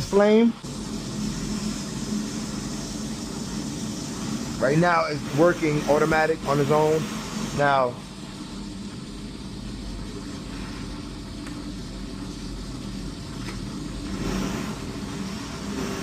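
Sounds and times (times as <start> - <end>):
gas burner low rumble: 0.0 - 16.0.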